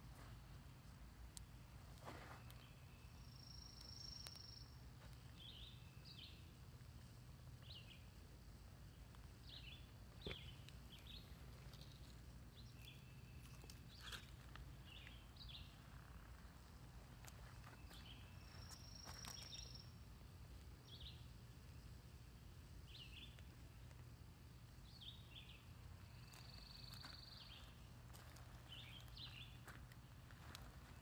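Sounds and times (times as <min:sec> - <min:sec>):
small birds chirping: 0:00.2 - 0:21.9, 0:22.8 - 0:31.0.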